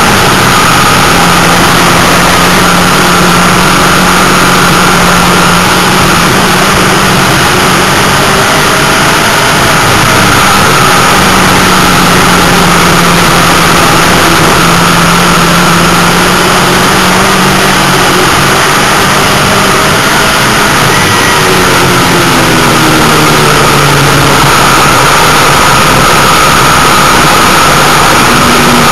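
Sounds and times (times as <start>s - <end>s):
race car engine running hard: 0.0s - 28.9s.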